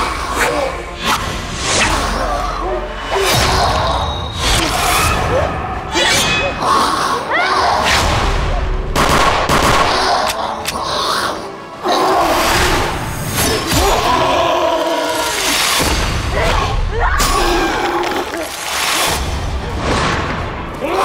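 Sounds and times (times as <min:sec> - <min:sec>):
dramatic action music: 0:00.0 - 0:21.0.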